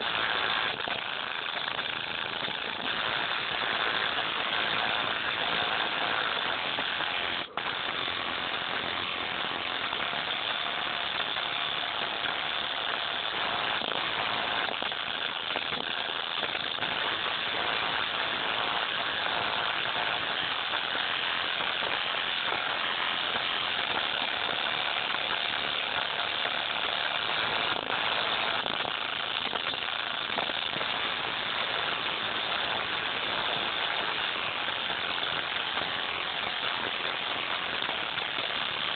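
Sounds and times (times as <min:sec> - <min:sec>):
distorted music from headphone driver: 0:00.0 - 0:38.9.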